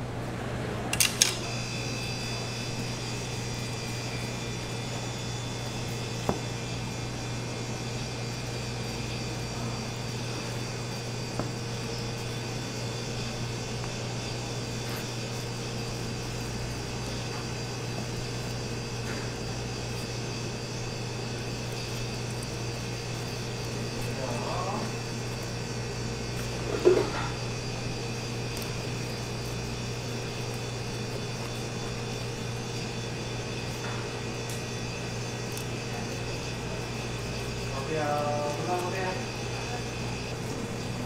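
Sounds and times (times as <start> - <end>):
mechanical hum with whine: 0.0 - 41.0.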